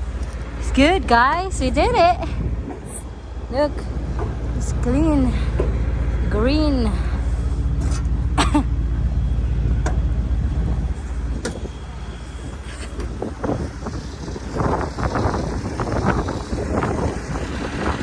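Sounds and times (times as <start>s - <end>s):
machine engine idling: 0.0s - 18.0s
wind buffeting microphone: 0.0s - 18.0s.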